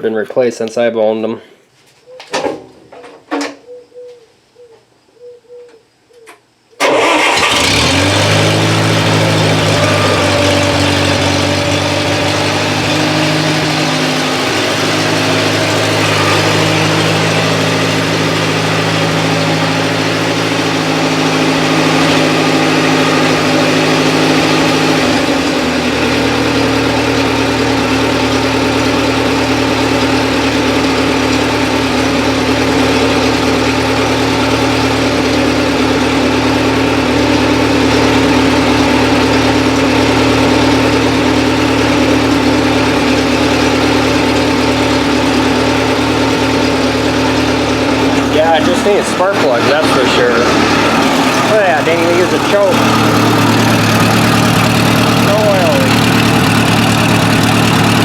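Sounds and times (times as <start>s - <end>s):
gasoline engine starting and idling: 6.8s - 58.0s.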